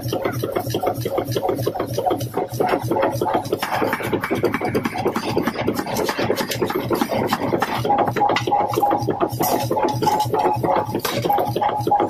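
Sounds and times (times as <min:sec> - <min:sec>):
power hammer striking steel: 0:00.0 - 0:12.0.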